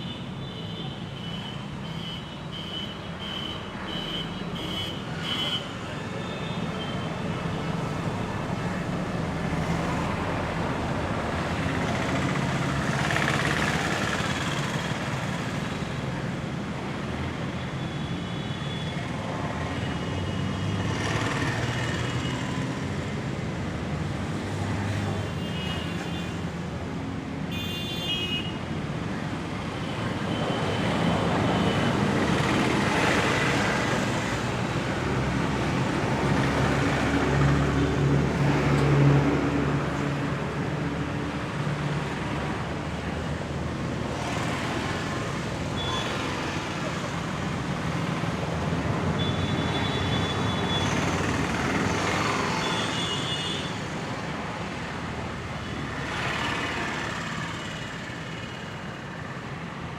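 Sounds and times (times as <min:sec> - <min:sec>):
vehicles passing by: 0:03.6 - 0:17.9, 0:19.0 - 0:27.6, 0:28.4 - 0:59.9.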